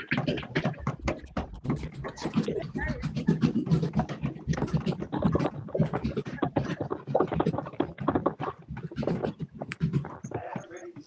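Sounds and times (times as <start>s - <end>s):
people clapping and slapping hands: 0.0s - 11.0s.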